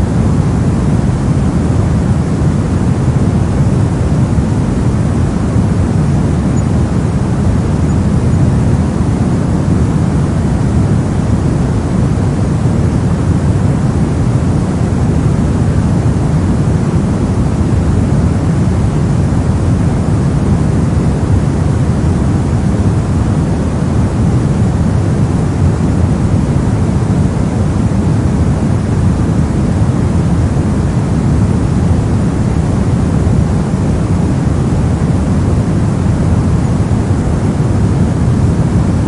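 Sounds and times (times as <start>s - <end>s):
brown noise: 0.0s - 39.0s.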